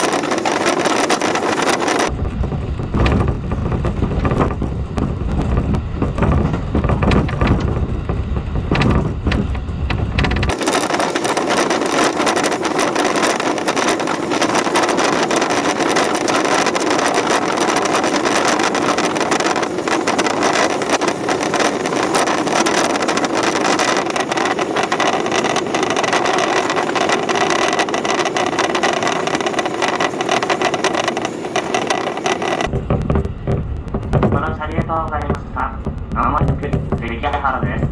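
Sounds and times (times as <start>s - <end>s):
train wheel and rail rumble: 0.0s - 37.9s.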